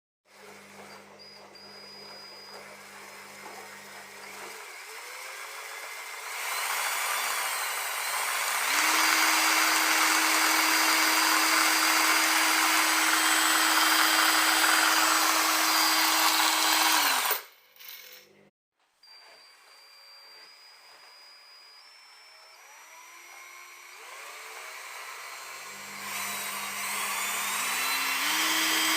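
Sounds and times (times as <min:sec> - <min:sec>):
electric drill whining: 0:00.4 - 0:17.5, 0:19.1 - 0:28.9.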